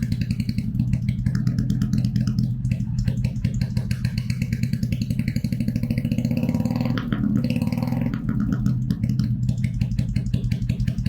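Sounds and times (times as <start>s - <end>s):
motorcycle engine pulsing exhaust: 0.0s - 11.0s.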